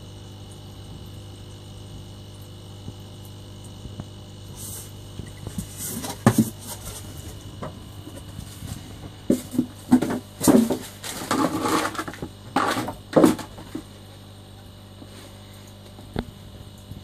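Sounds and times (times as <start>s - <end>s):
low electrical pump hum: 0.0s - 17.0s.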